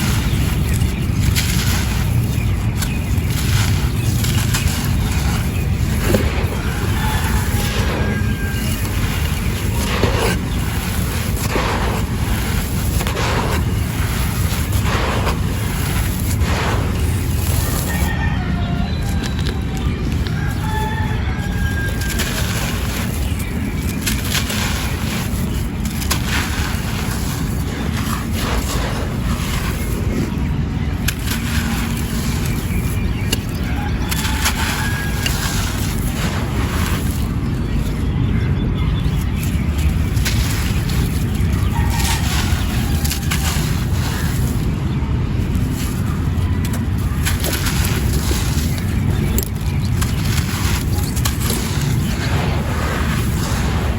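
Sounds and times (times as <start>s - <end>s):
dry clay crumbling crunches: 0.0s - 53.9s
steady low rumble: 0.0s - 53.9s
wind on microphone: 0.0s - 53.9s.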